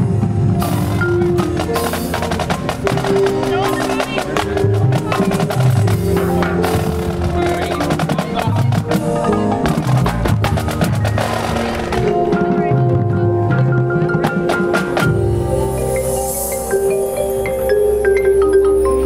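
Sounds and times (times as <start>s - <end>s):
marching band playing: 0.0s - 18.4s
rapid percussion strokes: 0.0s - 19.0s.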